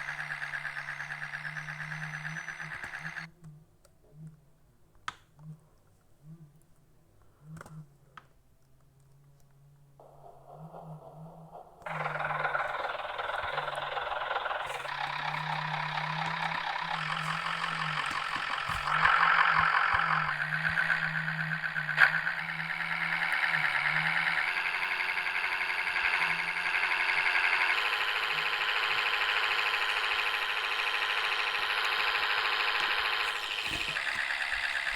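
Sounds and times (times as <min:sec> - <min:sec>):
bus engine drone: 0:00.0 - 0:03.3, 0:10.0 - 0:34.9
road and drivetrain rushing: 0:00.0 - 0:03.3, 0:10.0 - 0:34.9.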